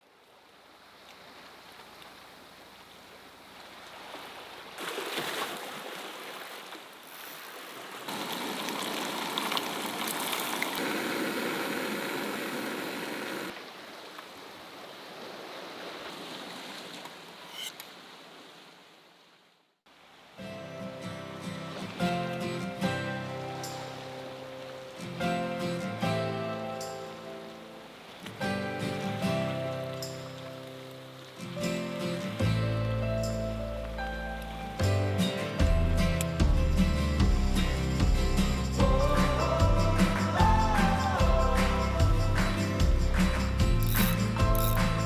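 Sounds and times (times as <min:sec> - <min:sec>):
sea surf on rocky shore: 0:00.4 - 0:18.9, 0:19.9 - 0:32.4, 0:37.6 - 0:45.0.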